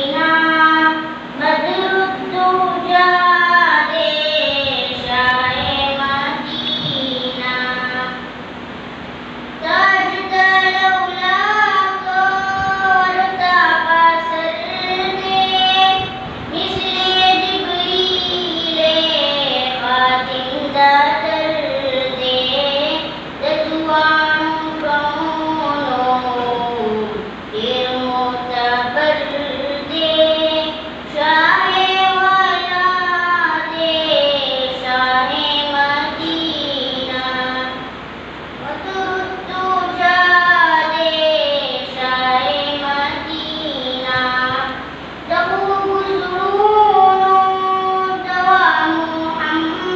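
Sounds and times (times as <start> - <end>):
boy singing into a microphone: 0.0 - 8.4, 9.6 - 38.0, 38.6 - 49.9.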